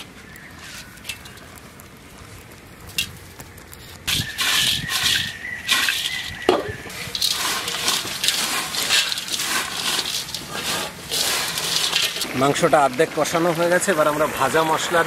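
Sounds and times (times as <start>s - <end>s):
dry rustling of potato sticks: 0.0s - 14.2s.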